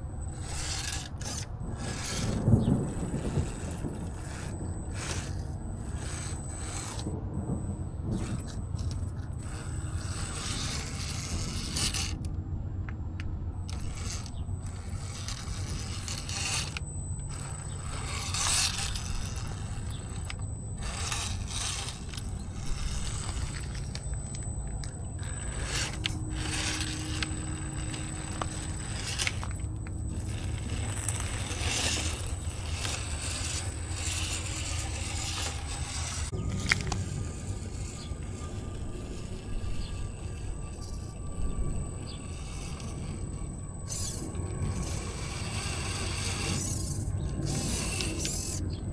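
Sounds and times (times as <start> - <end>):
electric motor and gears whining: 0.0 - 48.9
tyres grinding over rough ground: 0.0 - 48.9.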